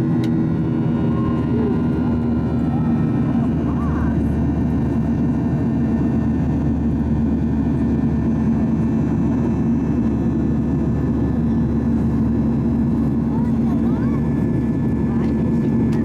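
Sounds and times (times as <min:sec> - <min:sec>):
airplane cabin engine roar: 0:00.0 - 0:16.0.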